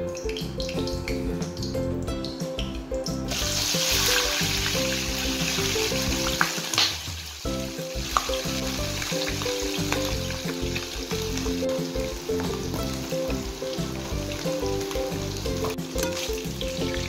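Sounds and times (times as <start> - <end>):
background music: 0.0 - 17.0
food sizzling in hot oil: 3.3 - 17.0.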